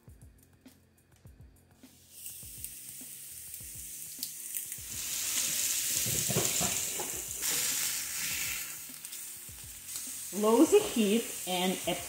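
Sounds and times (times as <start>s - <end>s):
fish fillets sizzling on grill pan: 1.9s - 12.0s.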